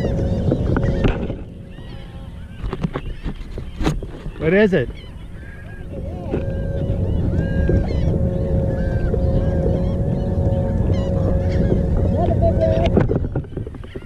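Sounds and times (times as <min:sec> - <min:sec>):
steady droning tone: 0:00.0 - 0:14.0
wind rumbling on microphone: 0:00.0 - 0:14.0.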